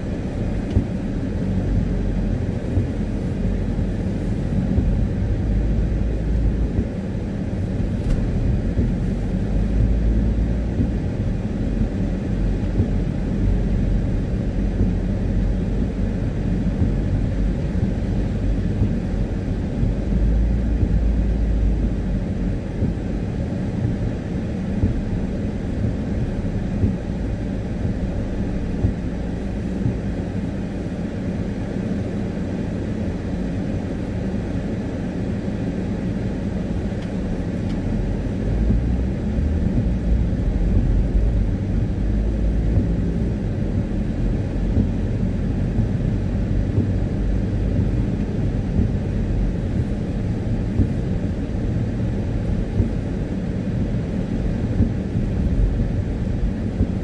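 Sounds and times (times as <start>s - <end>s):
tyres and engine rumble on wet road: 0.0s - 57.0s.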